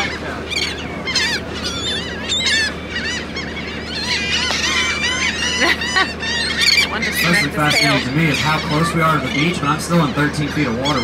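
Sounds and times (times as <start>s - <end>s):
gulls squawking: 0.0s - 11.0s
low engine drone: 0.0s - 11.0s.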